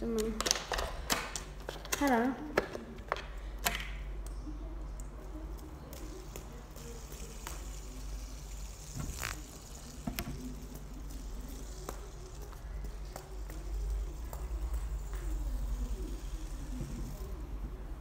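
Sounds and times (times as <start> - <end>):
low steady hum: 0.0 - 18.0
fidget spinner clicks and taps: 0.1 - 4.4, 5.0 - 17.4.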